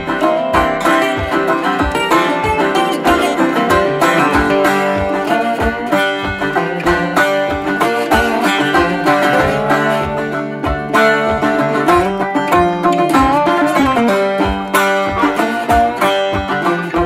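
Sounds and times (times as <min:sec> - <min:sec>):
upbeat banjo music: 0:00.0 - 0:17.0.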